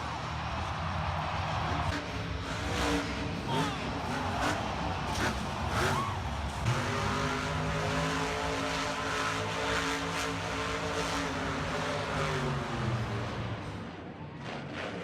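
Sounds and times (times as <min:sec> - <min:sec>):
monster truck engine droning: 0:00.0 - 0:15.0.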